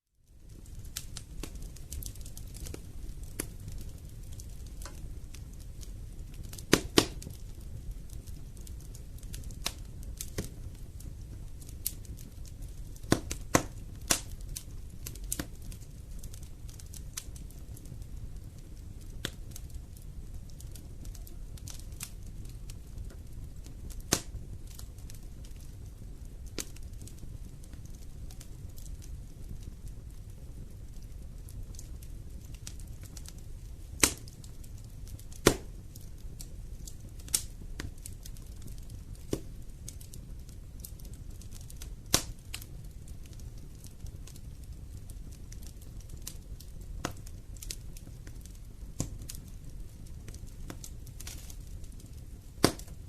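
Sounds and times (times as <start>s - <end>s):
fire low rumble: 0.0s - 53.0s
fire crackles and pops: 0.2s - 53.0s.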